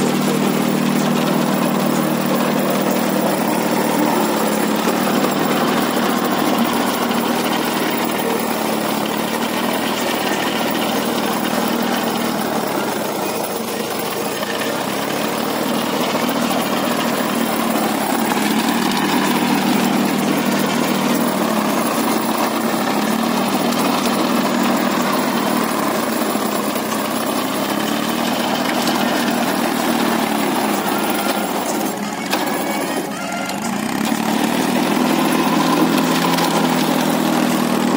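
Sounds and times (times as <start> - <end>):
rotavator tines churning soil: 0.0 - 37.9
tractor engine running under load: 0.0 - 37.9.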